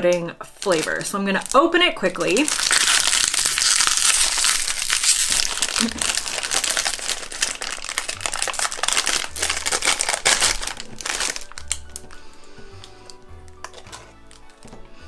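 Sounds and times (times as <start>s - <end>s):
plastic wrapper crinkling: 0.0s - 14.8s.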